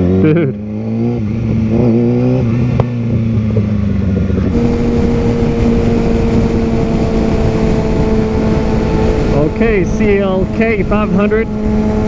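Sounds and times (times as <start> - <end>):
motorcycle engine running: 0.0 - 12.0
wind rush: 0.8 - 12.0.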